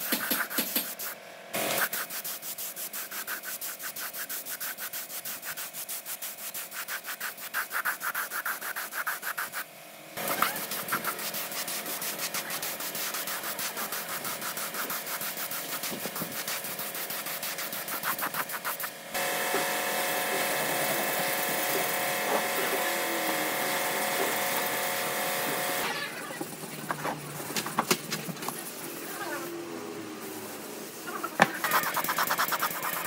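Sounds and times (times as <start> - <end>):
hand sanding strokes: 0.0 - 25.8, 31.5 - 33.0.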